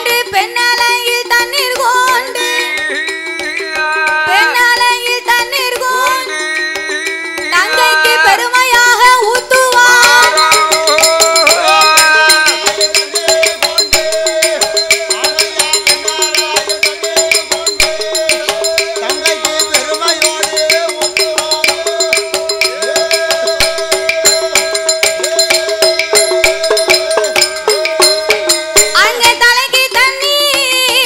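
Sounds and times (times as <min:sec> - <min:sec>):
rattling clicking percussion: 0:00.0 - 0:31.0.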